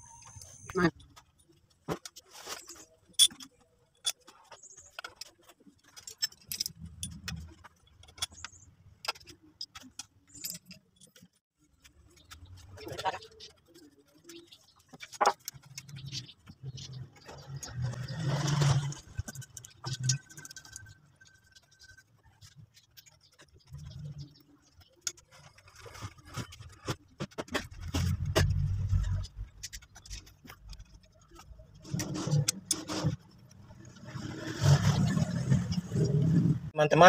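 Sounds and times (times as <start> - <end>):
light metallic clicks and scrapes: 0.0 - 36.5.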